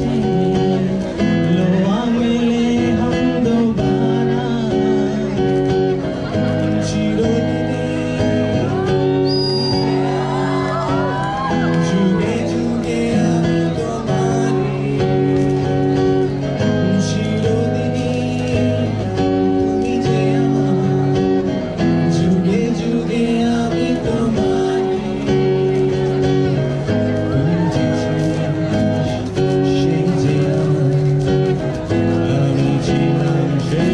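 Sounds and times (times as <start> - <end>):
acoustic guitar strumming chords: 0.0 - 33.9.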